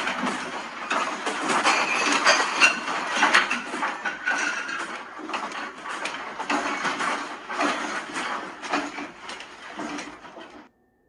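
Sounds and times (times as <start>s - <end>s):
room fittings rattling and creaking: 0.0s - 10.7s.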